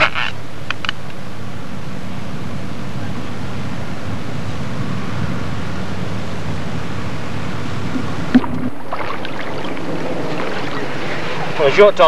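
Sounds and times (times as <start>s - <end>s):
water along shore: 1.5s - 12.0s
wind on microphone: 2.0s - 12.0s.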